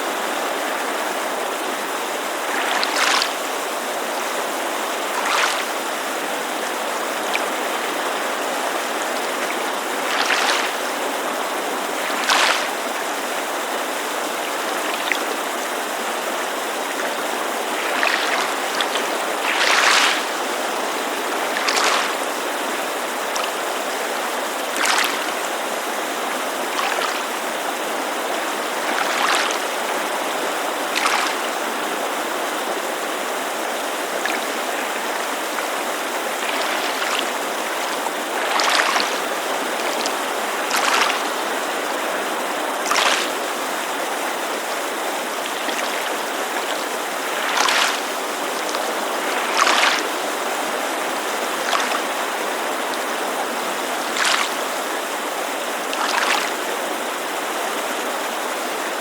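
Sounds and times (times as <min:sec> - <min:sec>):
creek rushing: 0:00.0 - 0:59.0
small waves splashing on shore: 0:00.0 - 0:59.0.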